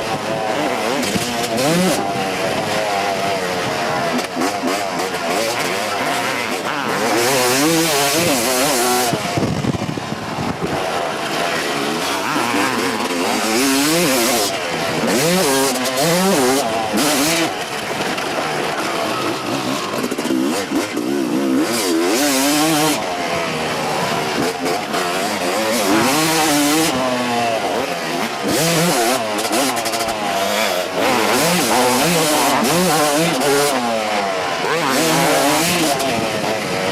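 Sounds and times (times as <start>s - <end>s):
motocross engine revving: 0.0s - 36.9s.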